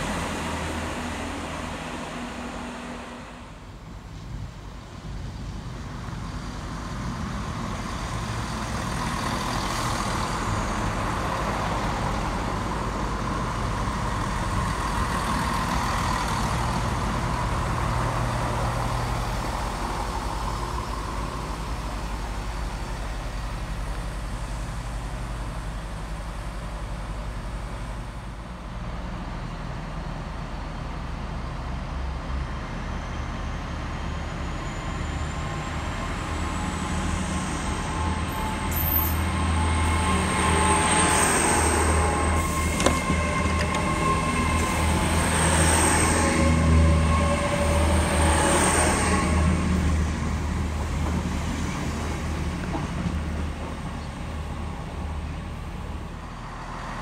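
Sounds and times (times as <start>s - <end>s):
diesel engine droning: 0.0s - 57.0s
train rumbling: 0.0s - 57.0s.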